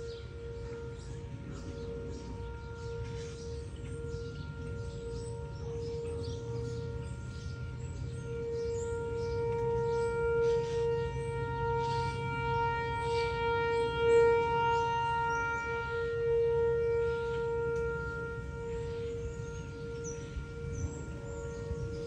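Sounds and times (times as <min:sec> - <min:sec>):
warning siren steady tone: 0:00.0 - 0:22.0.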